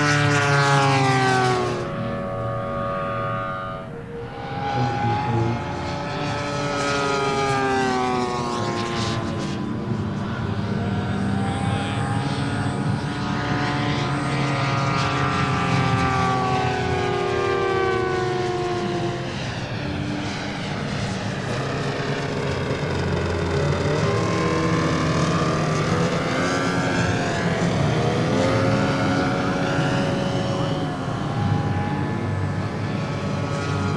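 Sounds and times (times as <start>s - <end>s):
model plane engine whine: 0.0s - 33.9s.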